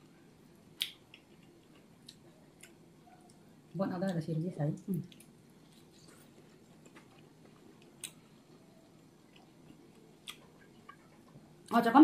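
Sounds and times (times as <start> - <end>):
faint chewing: 0.7 - 11.8.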